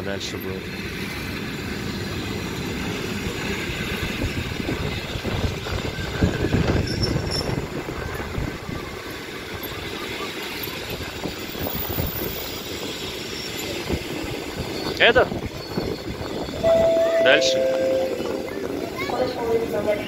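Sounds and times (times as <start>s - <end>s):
wheels squealing on rails: 0.6s - 20.0s.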